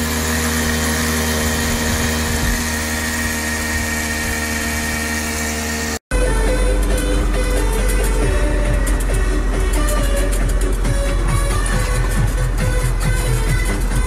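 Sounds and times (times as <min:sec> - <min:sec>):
moped engine running: 0:00.0 - 0:14.0.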